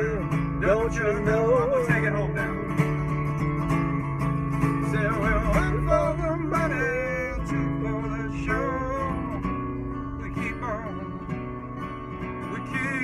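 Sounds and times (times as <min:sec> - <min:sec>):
bent guitar lead notes: 0:00.0 - 0:13.0
blues guitar strummed chords: 0:00.0 - 0:13.0.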